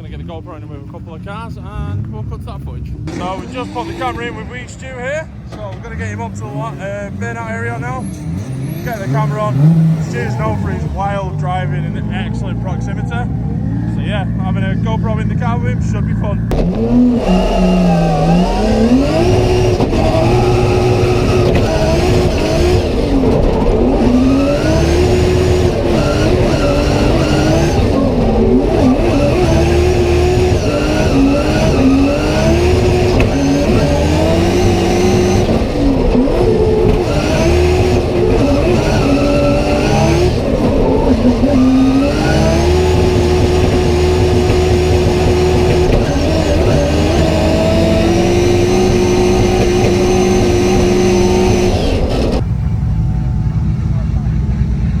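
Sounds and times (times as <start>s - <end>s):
car engine revving hard: 1.3s - 55.0s.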